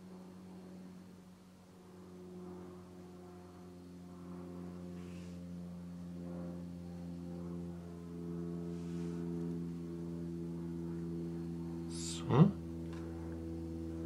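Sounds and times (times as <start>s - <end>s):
soft droning background music: 0.0s - 14.0s.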